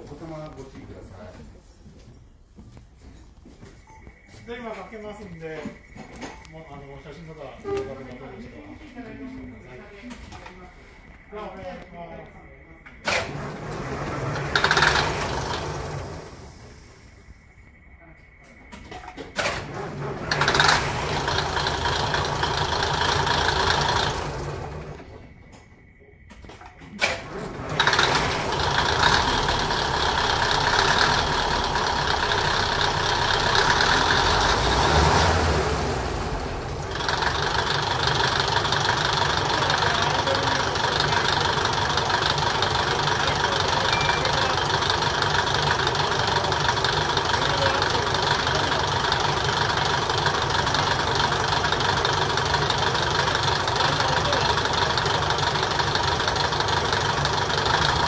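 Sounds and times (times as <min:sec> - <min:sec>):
diesel engine idling: 0:04.1 - 0:58.0
diesel engine starting: 0:04.1 - 0:58.0.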